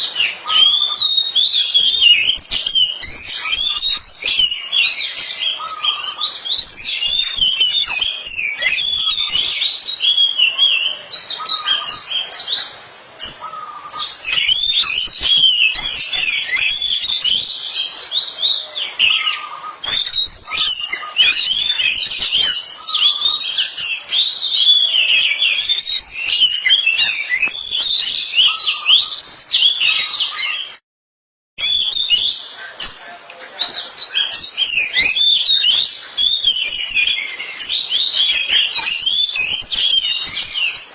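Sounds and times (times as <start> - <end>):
magpie-robin song: 0.0 - 30.8, 31.6 - 40.9.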